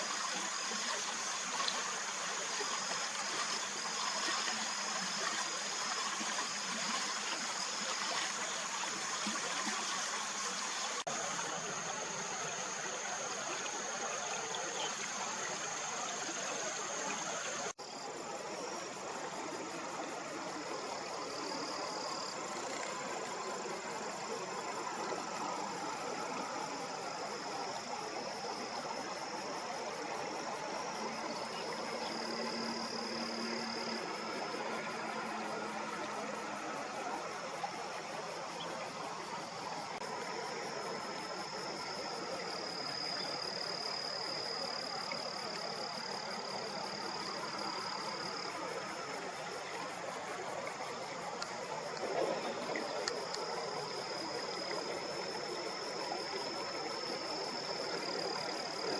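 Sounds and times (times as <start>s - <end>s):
insects trilling: 0.0s - 58.9s.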